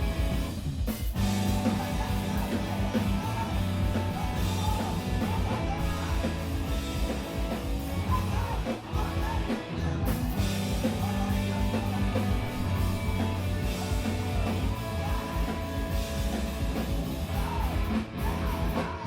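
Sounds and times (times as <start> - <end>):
live screamo band playing: 0.0 - 19.0.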